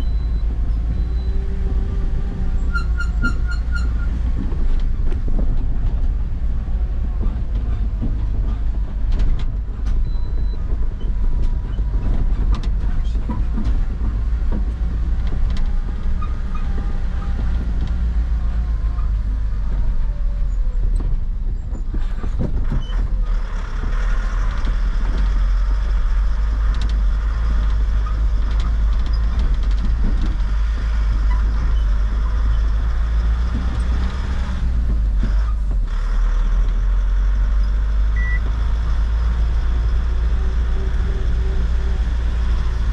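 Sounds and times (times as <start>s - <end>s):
truck engine droning: 0.0s - 42.9s
rattles and knocks: 0.3s - 42.9s.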